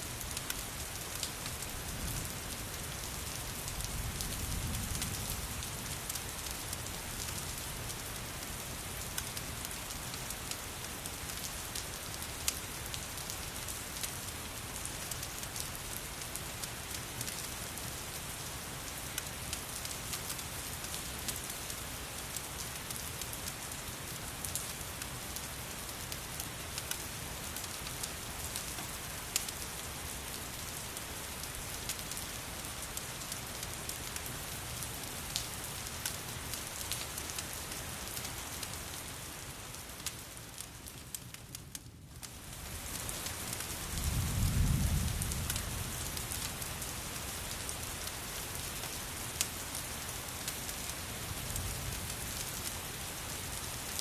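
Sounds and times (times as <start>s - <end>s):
crackling fireplace: 0.1s - 54.0s.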